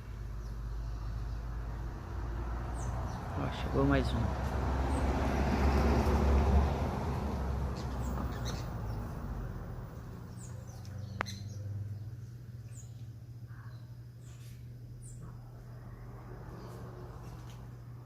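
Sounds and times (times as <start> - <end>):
small birds chirping: 0.0 - 5.2, 7.1 - 17.8
passing vehicle rumble: 0.0 - 12.8, 14.9 - 18.0.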